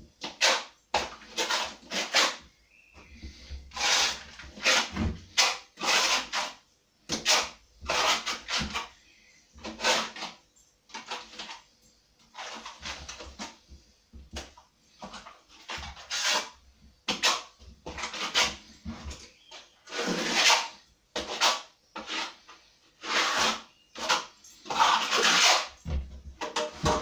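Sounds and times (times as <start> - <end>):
trowel scraping plaster on wall: 0.2 - 2.4, 3.0 - 9.0, 9.6 - 11.7, 12.3 - 13.6, 14.4 - 27.0.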